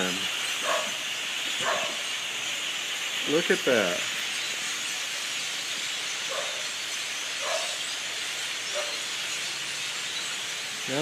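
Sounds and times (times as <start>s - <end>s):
flock of birds chattering: 0.0s - 11.0s.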